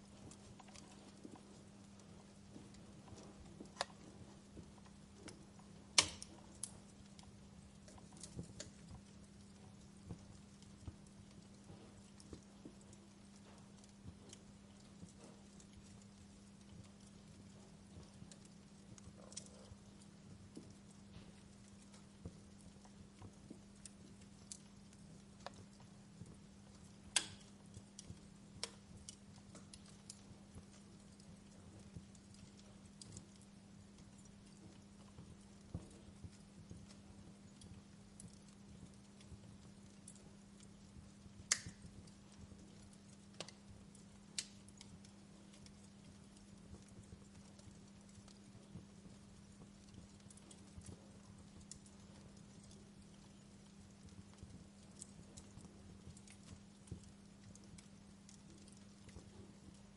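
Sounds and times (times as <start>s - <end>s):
faint steady hum: 0.0s - 59.9s
wood fire crackling: 0.0s - 59.9s.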